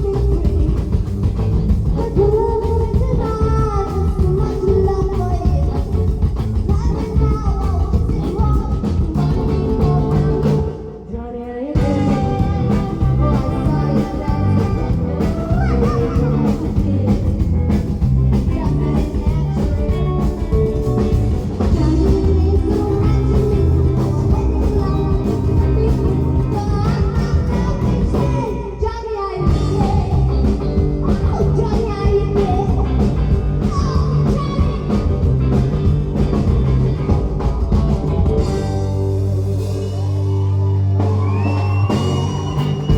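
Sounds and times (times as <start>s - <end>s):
live rock and roll band: 0.0s - 42.9s.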